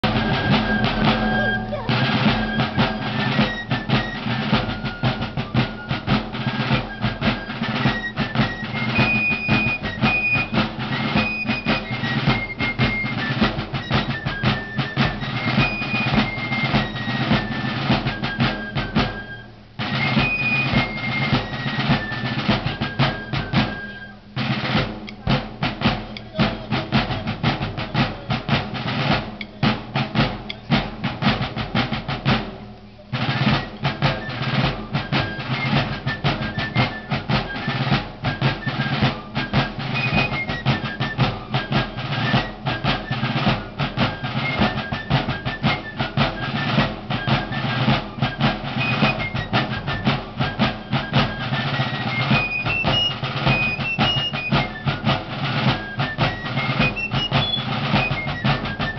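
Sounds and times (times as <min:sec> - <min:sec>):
fifes playing shrill melody: 0:00.0 - 0:24.5, 0:33.1 - 0:58.9
snare drum rolls: 0:00.0 - 0:58.9.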